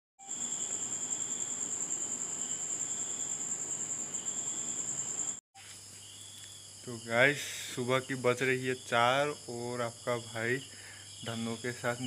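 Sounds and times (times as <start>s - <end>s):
crickets chirping: 0.2s - 12.0s.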